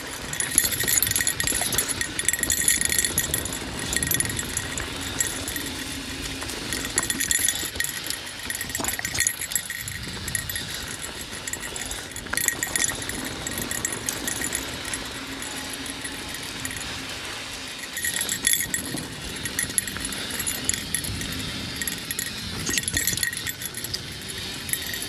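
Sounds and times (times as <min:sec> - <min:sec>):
bike tyres on dirt trail: 0:00.0 - 0:25.0
chain and frame rattling: 0:00.0 - 0:25.0.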